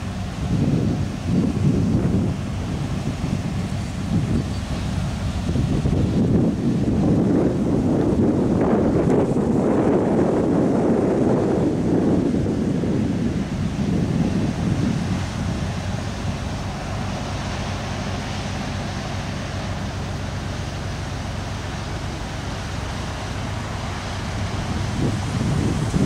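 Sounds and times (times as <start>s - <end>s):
ship diesel engine drone: 0.0s - 26.0s
wind buffeting microphone: 0.0s - 26.0s.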